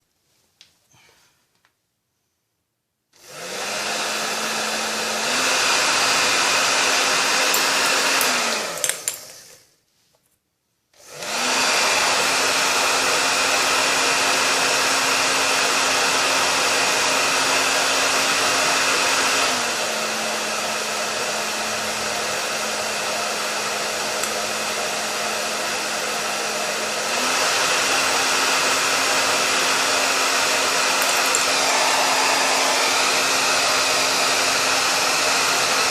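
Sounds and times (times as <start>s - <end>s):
hair dryer blowing: 3.1s - 9.7s, 11.0s - 35.9s
hair dryer motor winding down: 3.2s - 9.6s, 11.0s - 35.9s.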